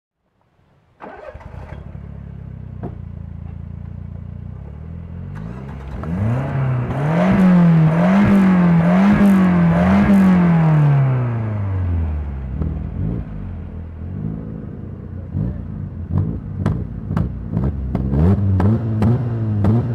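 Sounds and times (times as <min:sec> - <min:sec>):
car engine idling and revving: 0:01.0 - 0:19.9.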